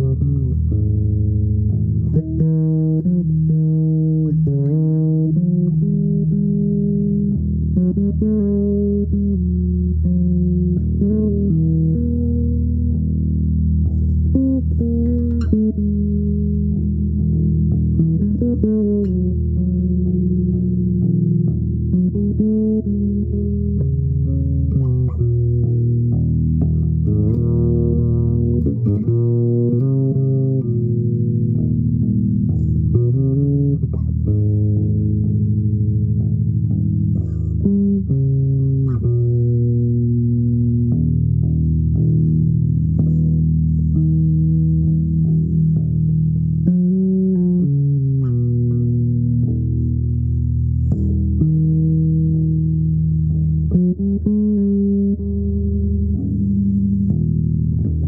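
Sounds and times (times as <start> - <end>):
plucked string instrument melody: 0.0 - 58.0.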